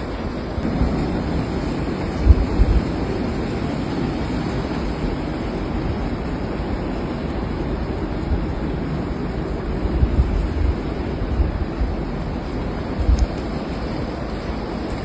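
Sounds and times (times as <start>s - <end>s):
strong storm wind rushing: 0.0s - 15.0s
wind buffeting microphone: 0.0s - 15.0s.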